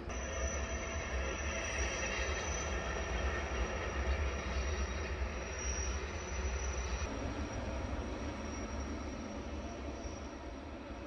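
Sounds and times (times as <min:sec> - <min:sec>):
distant train rumbling: 0:00.0 - 0:11.0.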